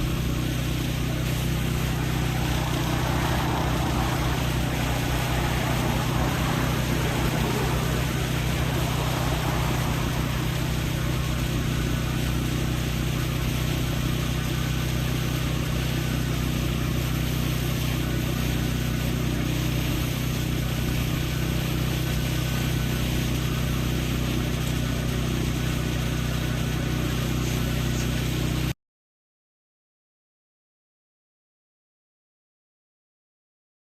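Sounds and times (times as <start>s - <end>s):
pressure washer engine running: 0.0s - 28.6s.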